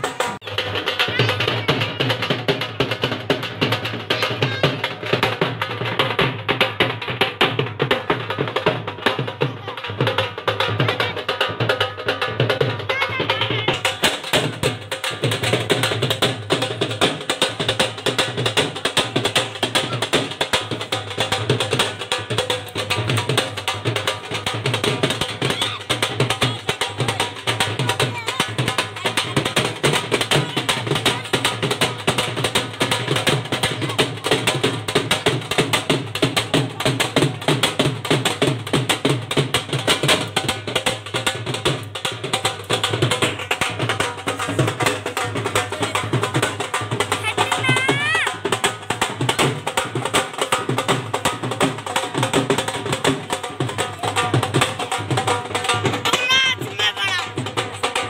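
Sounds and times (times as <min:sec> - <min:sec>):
drum beaten with sticks: 0:00.0 - 0:58.0.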